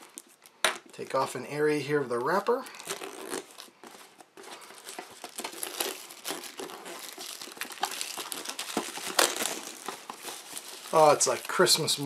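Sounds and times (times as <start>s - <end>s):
plastic shrink-wrap crinkling: 0.0s - 1.1s, 1.8s - 12.0s.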